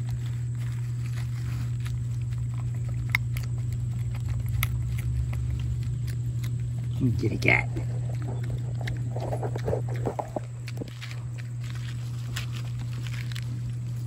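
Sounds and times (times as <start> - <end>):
pig munching: 0.0 - 14.0
steady low hum: 0.0 - 14.0.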